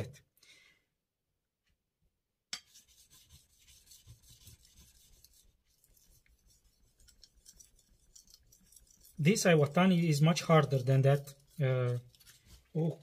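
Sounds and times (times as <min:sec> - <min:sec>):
knife scraping on whetstone: 0:02.6 - 0:13.0.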